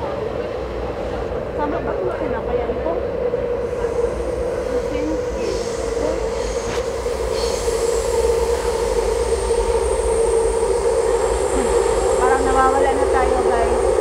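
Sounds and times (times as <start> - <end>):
metro train rumble: 0.0 - 14.0
high hiss: 2.3 - 14.0.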